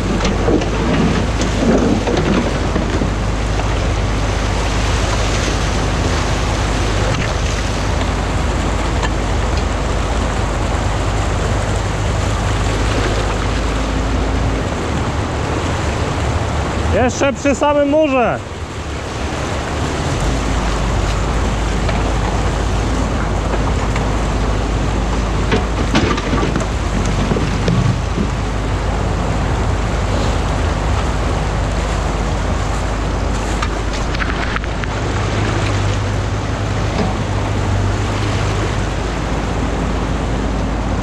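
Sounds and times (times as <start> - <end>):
excavator engine hum: 0.0 - 41.0
water rushing over weir: 0.0 - 41.0.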